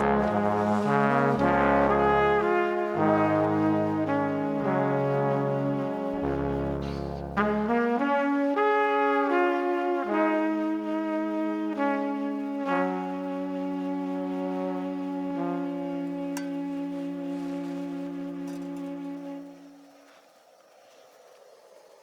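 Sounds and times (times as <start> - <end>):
sustained brass-like chords: 0.0 - 20.0.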